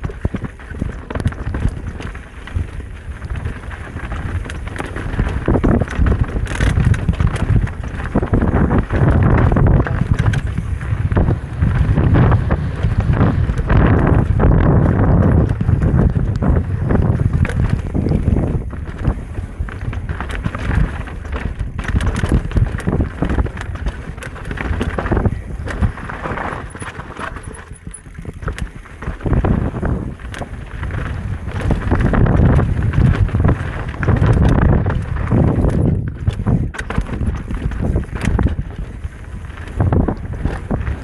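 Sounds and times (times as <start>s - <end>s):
bike chain and frame rattling: 0.0s - 41.0s
tyres rolling over dirt: 0.0s - 41.0s
wind buffeting microphone: 0.0s - 41.0s.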